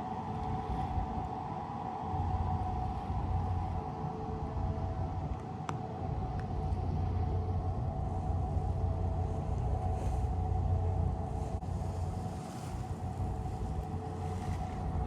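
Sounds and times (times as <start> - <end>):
boat engine rumble: 0.0 - 15.0
steady whine: 0.0 - 15.0.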